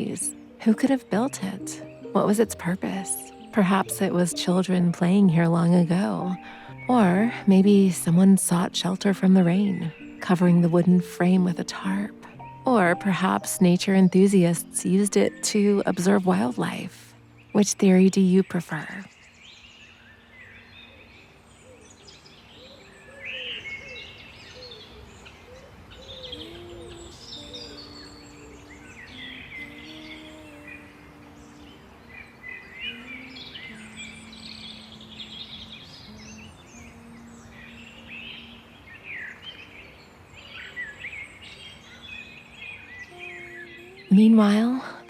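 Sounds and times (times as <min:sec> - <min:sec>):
ambient music with low notes: 0:00.0 - 0:24.6, 0:26.2 - 0:45.0
songbirds chirping and singing: 0:00.0 - 0:45.0.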